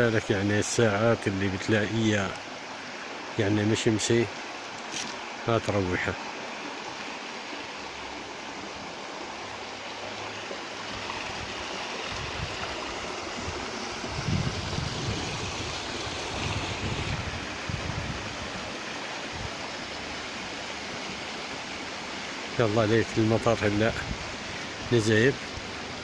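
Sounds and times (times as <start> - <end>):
stream running over stones: 0.0 - 26.0.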